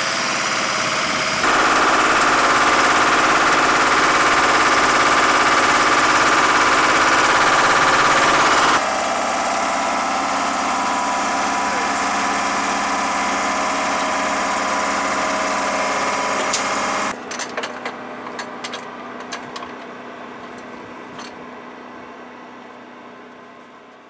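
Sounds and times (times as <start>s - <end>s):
steady machine drone with tones: 0.0s - 22.2s.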